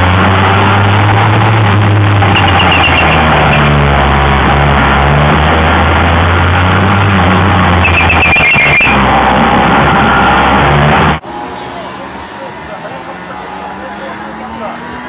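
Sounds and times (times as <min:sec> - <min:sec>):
scooter engines buzzing: 0:00.0 - 0:15.0.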